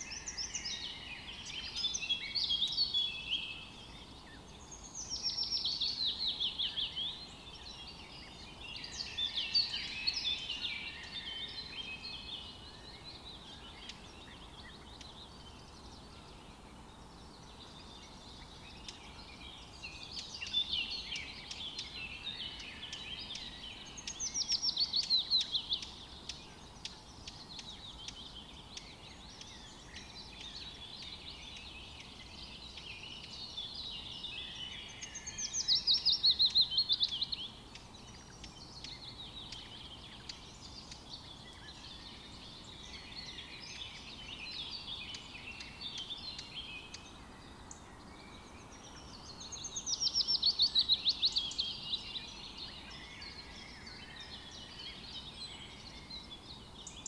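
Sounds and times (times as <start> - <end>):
faint steady hiss: 0.0 - 57.0
quiet bird chirping and warbling: 0.0 - 57.0
songbirds singing: 0.0 - 57.0.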